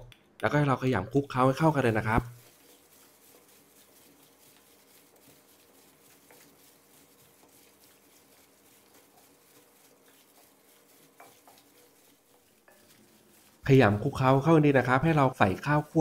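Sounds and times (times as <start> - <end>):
wet squelching of kneaded meat: 1.3 - 16.0.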